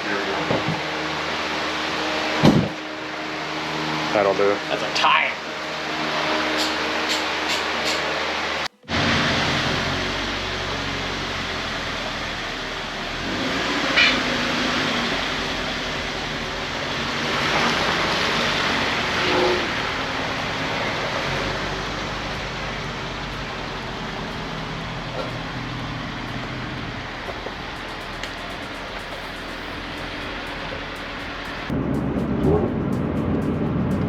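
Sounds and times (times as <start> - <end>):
car engine under load: 0.0 - 34.0
road noise: 0.0 - 34.0.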